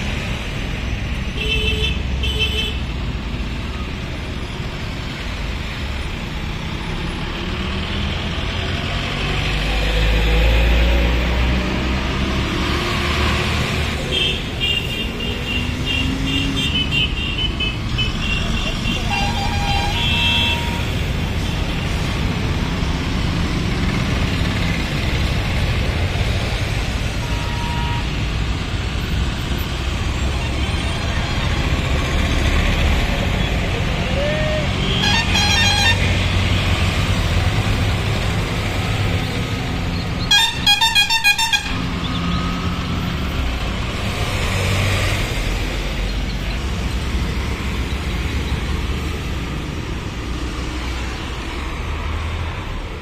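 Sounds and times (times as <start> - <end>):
heavy highway traffic: 0.0 - 53.0
trucks and buses passing: 0.0 - 53.0.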